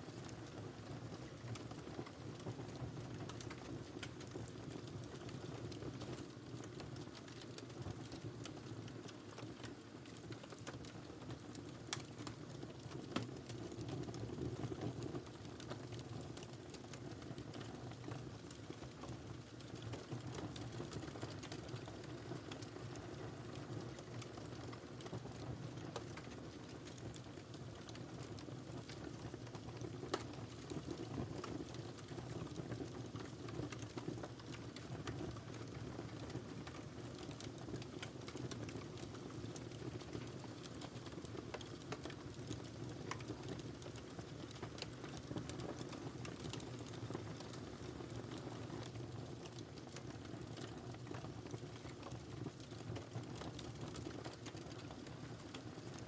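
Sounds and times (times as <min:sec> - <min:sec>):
wood fire crackling: 0:00.1 - 0:56.0.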